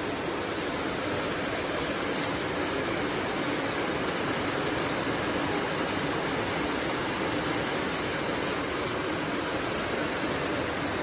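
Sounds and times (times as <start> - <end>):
fast-flowing floodwater: 0.0 - 11.0
torrential rain: 0.0 - 11.0.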